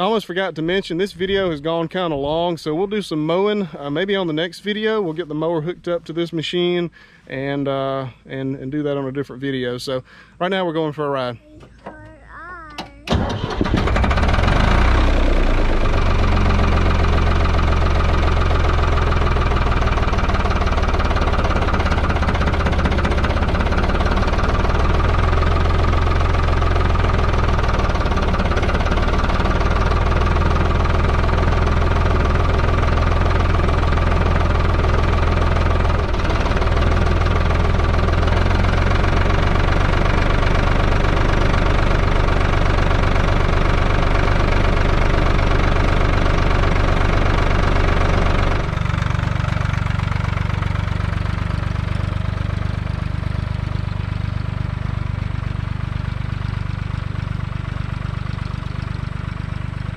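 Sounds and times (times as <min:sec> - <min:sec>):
tractor engine rumbling: 0:00.0 - 0:59.9.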